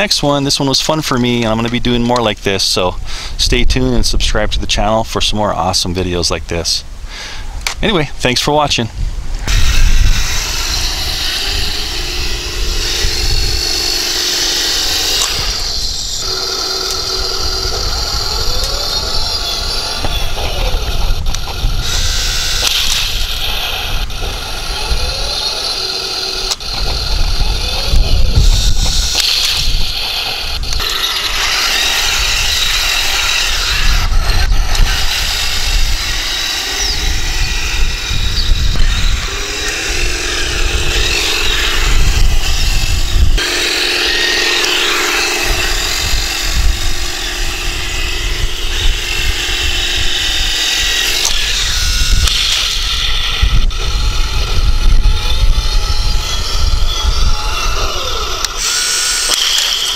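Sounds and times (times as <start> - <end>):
toy tank motors whining: 0.0 - 6.8, 9.4 - 59.9
heavy low rumble: 1.3 - 58.6.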